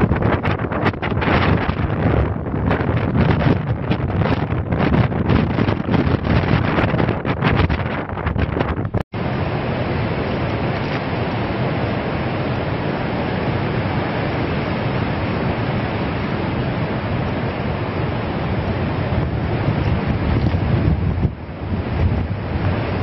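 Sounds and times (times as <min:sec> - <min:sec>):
heavy storm surf: 0:00.0 - 0:23.0
wind: 0:00.0 - 0:23.0
wind buffeting microphone: 0:00.0 - 0:23.0.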